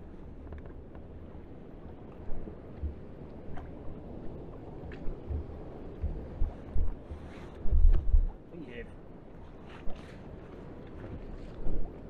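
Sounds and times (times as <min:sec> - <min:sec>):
wind rumbling on microphone: 0:00.0 - 0:08.6, 0:09.2 - 0:12.0.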